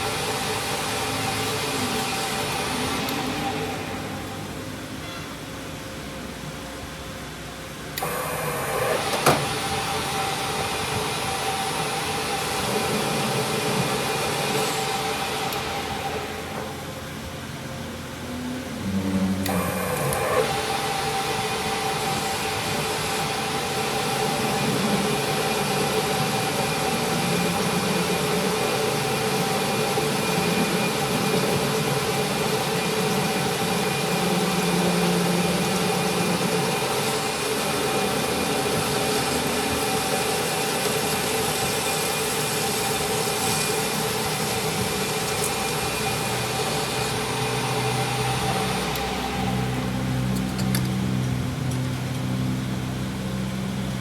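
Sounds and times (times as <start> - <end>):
workshop machine humming: 0.0 - 54.0.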